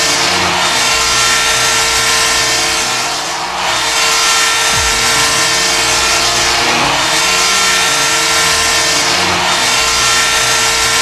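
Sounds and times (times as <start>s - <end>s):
goal horn blast: 0.0s - 11.0s.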